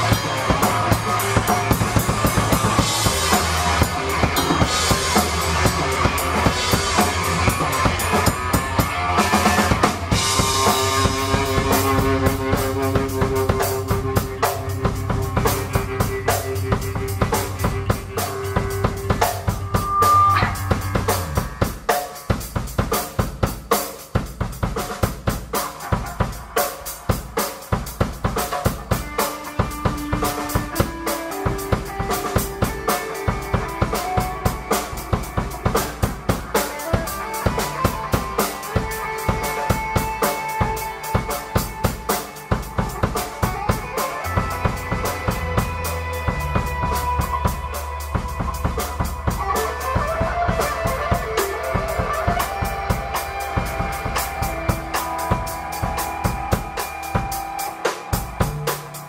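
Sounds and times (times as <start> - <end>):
bass guitar notes: 0.0 - 21.9, 30.2 - 59.0
drum kit beat: 0.0 - 59.0
electric guitar: 0.0 - 59.0.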